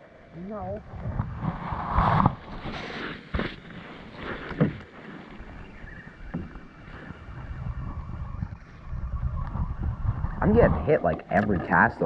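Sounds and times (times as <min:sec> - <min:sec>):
hiss of wind and water: 0:00.0 - 0:12.0
knocks and bumps in a canoe: 0:00.8 - 0:12.0.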